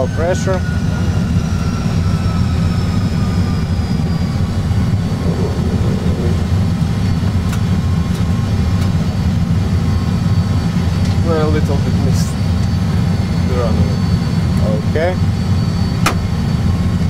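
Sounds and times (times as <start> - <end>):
aircraft engines rumbling: 0.0 - 17.0
faint high whines: 0.0 - 17.0.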